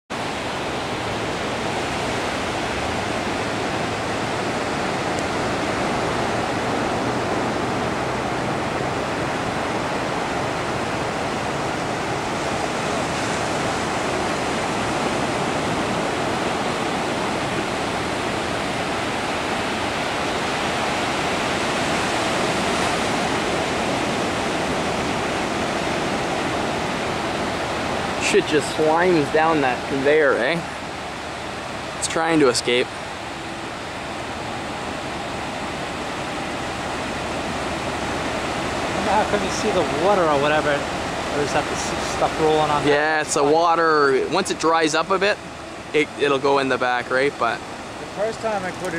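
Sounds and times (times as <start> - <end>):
surf breaking on shore: 0.1 - 48.9.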